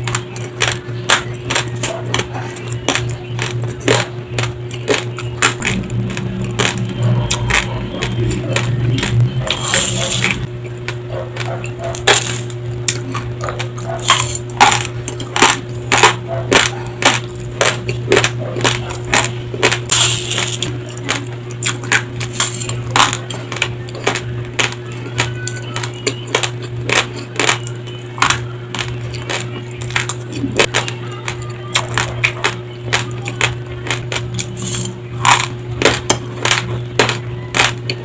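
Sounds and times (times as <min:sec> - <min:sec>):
crunching of chewed rice: 0:00.0 - 0:38.0
steady low hum: 0:00.0 - 0:38.0.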